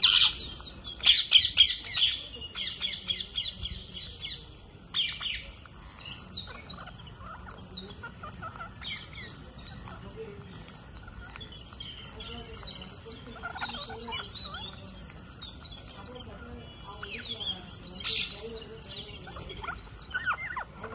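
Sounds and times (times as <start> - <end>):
harsh parakeet call: 0.0 - 20.9
parakeets chattering: 0.0 - 20.9.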